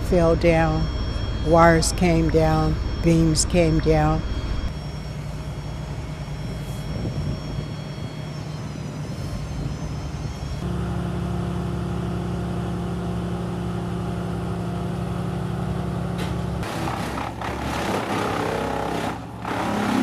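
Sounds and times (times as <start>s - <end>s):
motor humming: 2.8s - 20.0s.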